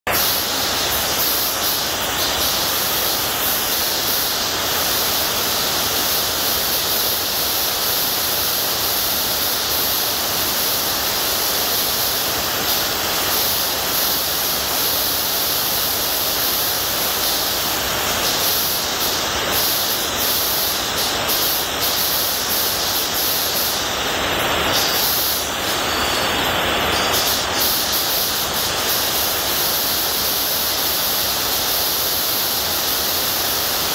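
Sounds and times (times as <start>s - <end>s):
loud white noise hiss: 0.0s - 33.9s.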